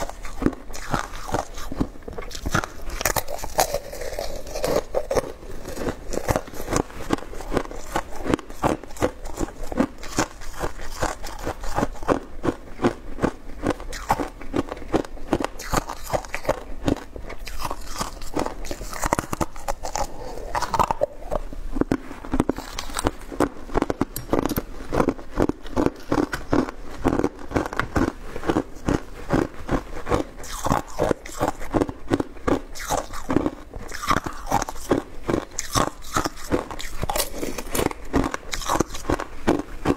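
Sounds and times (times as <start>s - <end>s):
chewing crunchy shaved ice: 0.0s - 39.9s.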